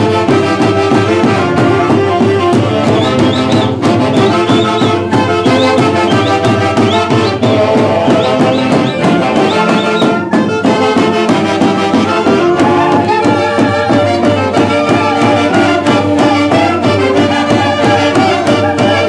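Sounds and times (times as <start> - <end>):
folk band wind instruments: 0.0 - 19.0
hand drum beat: 0.0 - 19.0.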